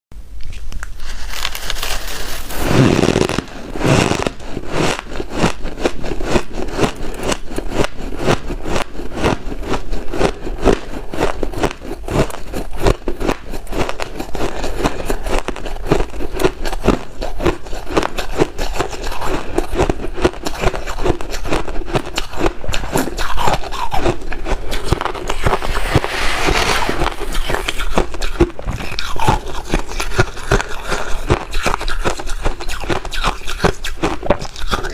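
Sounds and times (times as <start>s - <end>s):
ice being crunched and chewed: 0.5s - 26.0s, 27.0s - 34.9s.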